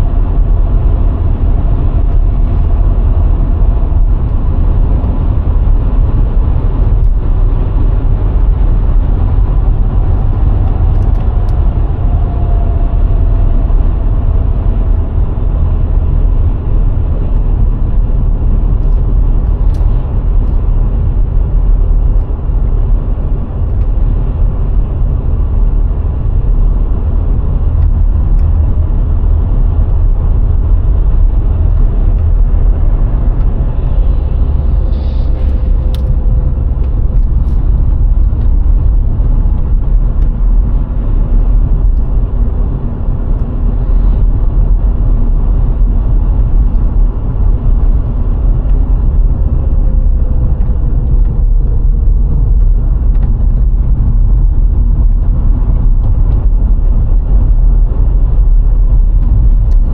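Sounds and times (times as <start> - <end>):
car engine running: 0.0 - 59.9
tyre and wind noise: 0.0 - 59.9.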